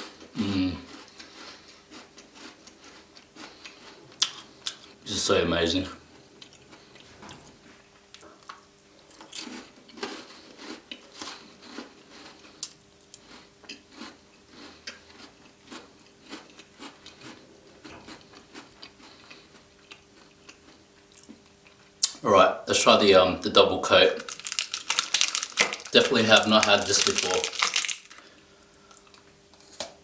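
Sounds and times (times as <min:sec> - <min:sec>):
biscuit crunching while chewed: 0:00.0 - 0:05.0, 0:06.4 - 0:22.2, 0:24.2 - 0:30.0.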